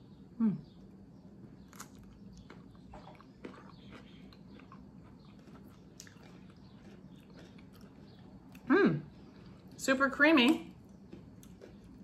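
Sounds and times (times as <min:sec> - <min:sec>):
crunching and chewing: 0:00.7 - 0:09.8, 0:10.4 - 0:12.0.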